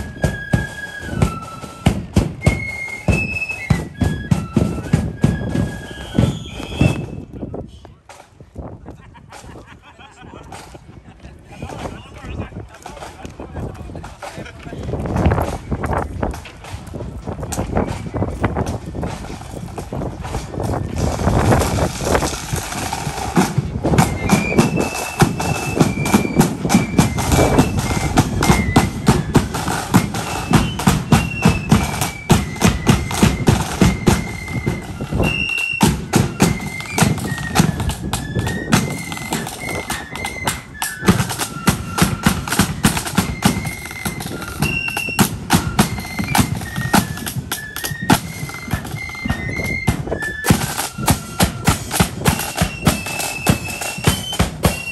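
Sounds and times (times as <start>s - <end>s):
side drum beats: 0.0s - 7.0s, 17.4s - 54.9s
shrill flute melody: 0.0s - 7.8s, 17.4s - 19.8s, 20.8s - 54.9s.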